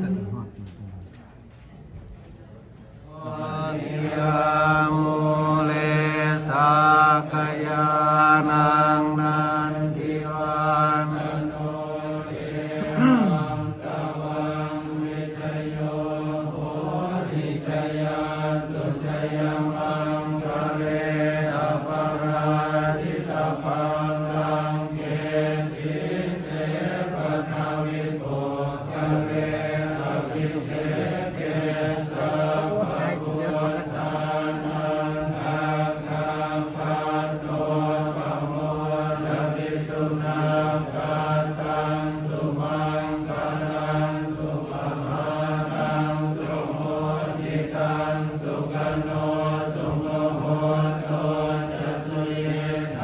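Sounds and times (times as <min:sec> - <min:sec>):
monks chanting in unison: 0:03.1 - 0:53.0.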